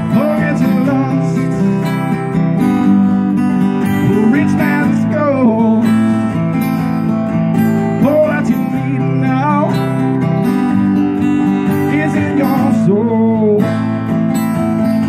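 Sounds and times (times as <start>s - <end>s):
acoustic guitars strumming chords: 0.0s - 15.0s.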